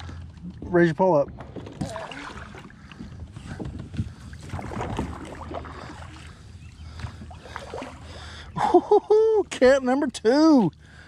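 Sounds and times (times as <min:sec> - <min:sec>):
wind rumbling on microphone: 0:00.0 - 0:09.0
water splashing against kayak: 0:00.0 - 0:11.0.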